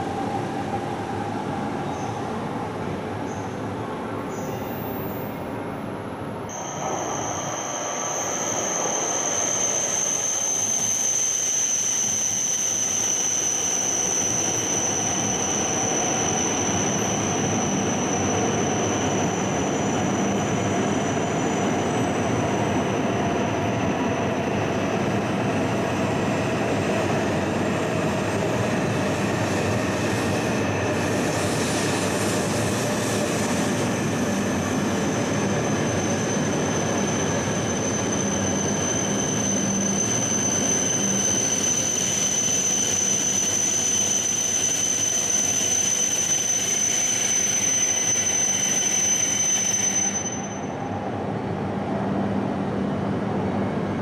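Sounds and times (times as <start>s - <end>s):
train rushing along platform: 0.0s - 54.0s.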